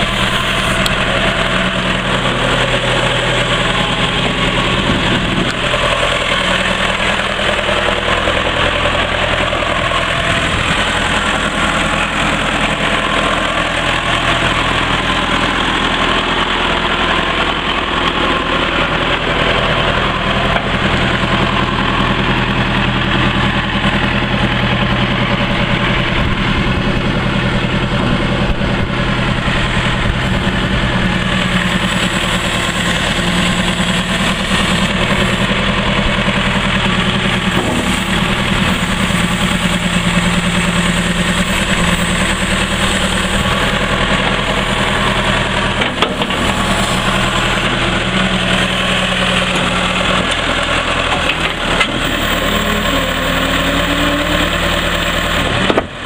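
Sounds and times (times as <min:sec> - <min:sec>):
diesel engine running at low revs: 0:00.0 - 0:56.0.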